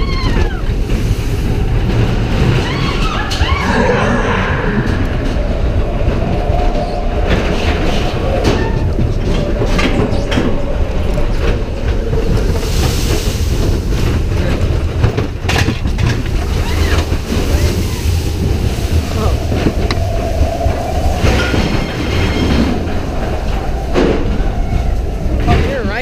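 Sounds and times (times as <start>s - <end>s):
coaster sled rumbling on track: 0.0s - 26.0s.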